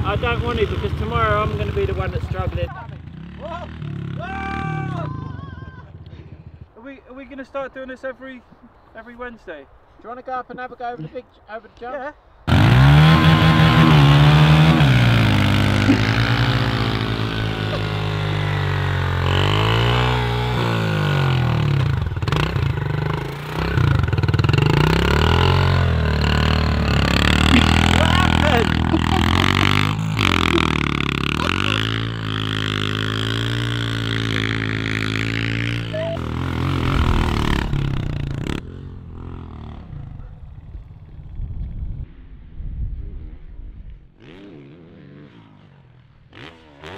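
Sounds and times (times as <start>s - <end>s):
dirt bike engine revving: 0.0s - 6.8s, 12.5s - 42.2s, 44.2s - 46.9s.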